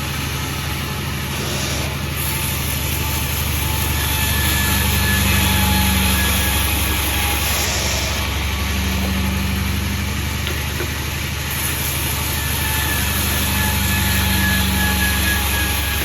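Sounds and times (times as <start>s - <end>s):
faint high whine: 0.0s - 16.0s
sawmill engine droning: 0.0s - 16.0s.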